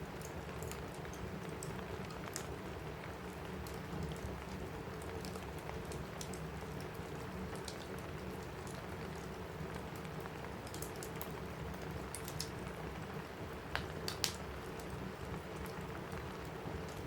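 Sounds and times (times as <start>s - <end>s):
rain on a roof: 0.0s - 17.0s
wood fire crackling: 0.1s - 17.0s.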